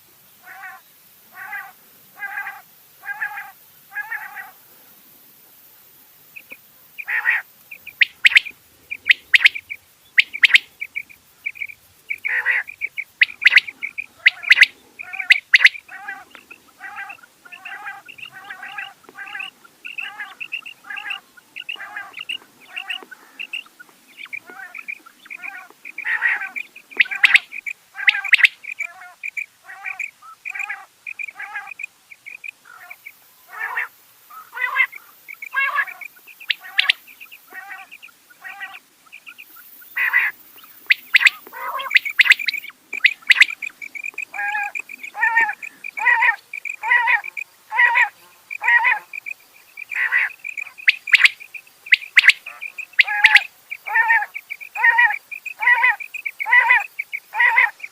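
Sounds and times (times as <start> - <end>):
quail calling: 0.4 - 4.6, 6.4 - 57.9.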